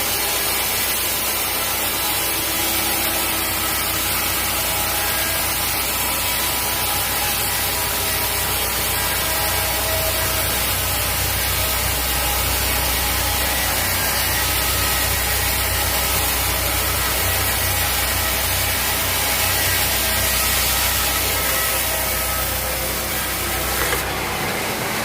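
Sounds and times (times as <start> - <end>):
sawmill saw cutting log: 0.0 - 25.0.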